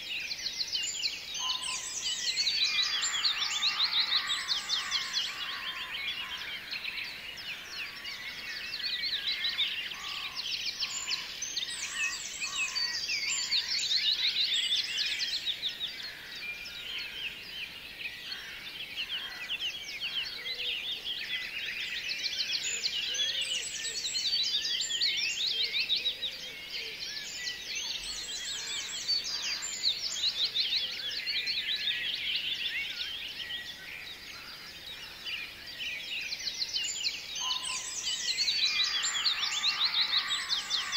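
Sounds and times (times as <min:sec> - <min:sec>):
many birds chirping: 0:00.0 - 0:40.9.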